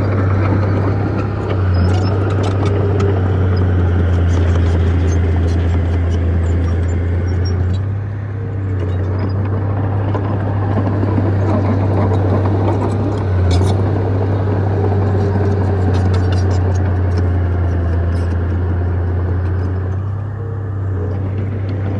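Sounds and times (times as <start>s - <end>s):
bulldozer diesel engine droning: 0.0s - 21.9s.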